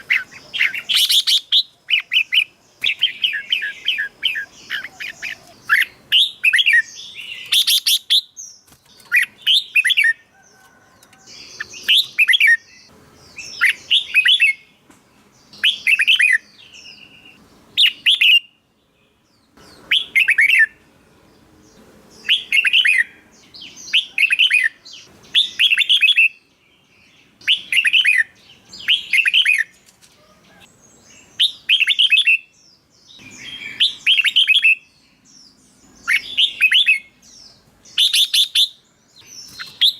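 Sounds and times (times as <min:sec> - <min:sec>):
bird singing warbling phrases: 0:00.0 - 0:14.8, 0:15.4 - 0:39.9.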